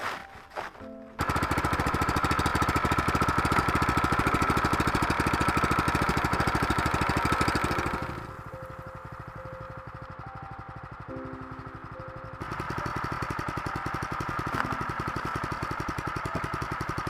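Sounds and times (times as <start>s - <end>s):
small engine chugging: 1.1s - 17.0s.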